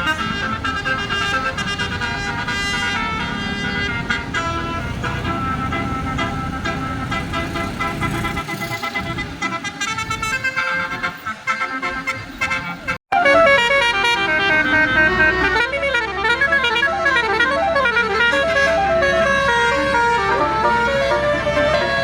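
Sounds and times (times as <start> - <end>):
multi-tone bus horn melody: 0.0 - 22.0.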